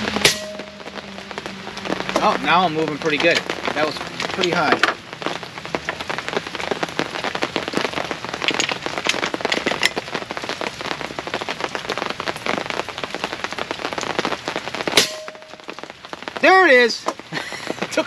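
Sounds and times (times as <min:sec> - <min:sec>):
rain on fabric canopy: 0:00.0 - 0:18.0.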